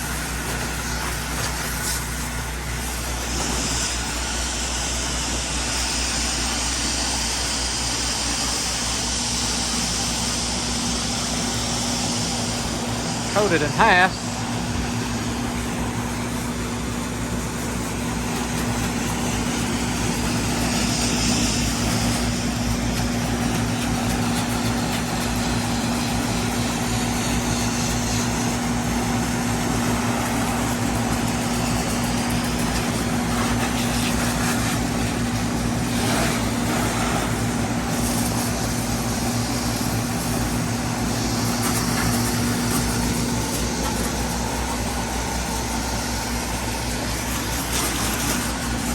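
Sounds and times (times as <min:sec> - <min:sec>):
small gasoline engine running: 0:00.0 - 0:48.9
spray hiss: 0:00.0 - 0:48.9.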